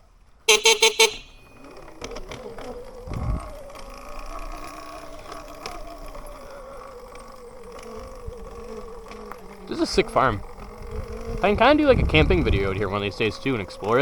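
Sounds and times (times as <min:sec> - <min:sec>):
electric motorbike motor whining: 0:01.8 - 0:14.0.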